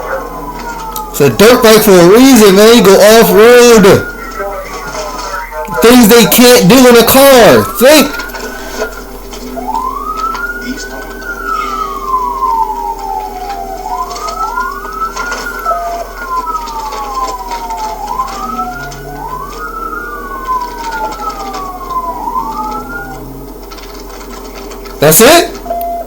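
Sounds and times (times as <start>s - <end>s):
police sirens wailing: 0.0s - 26.0s.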